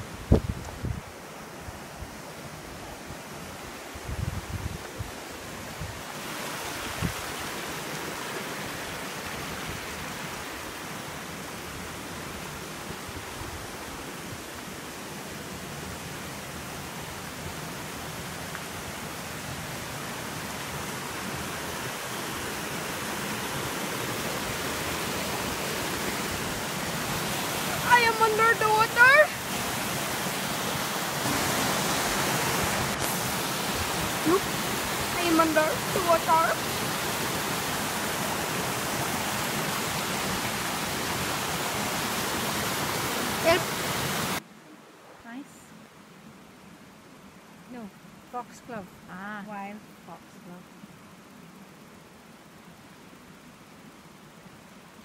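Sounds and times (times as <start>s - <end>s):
waterfall and stream rushing: 0.0s - 48.7s.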